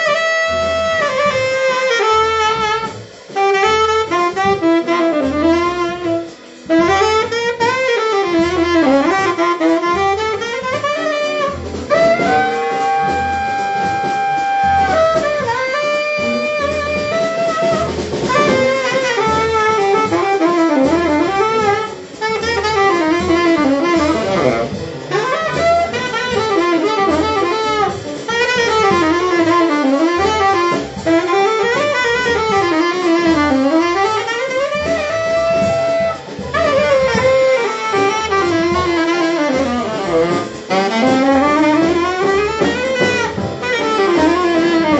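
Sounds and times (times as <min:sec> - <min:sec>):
jazz piano bass and drums: 0:00.0 - 0:44.9
saxophone solo: 0:00.0 - 0:44.9.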